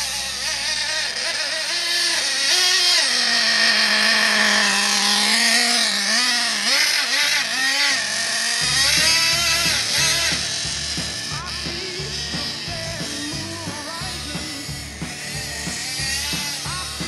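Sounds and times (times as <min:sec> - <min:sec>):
small motor whining: 0:00.0 - 0:17.0.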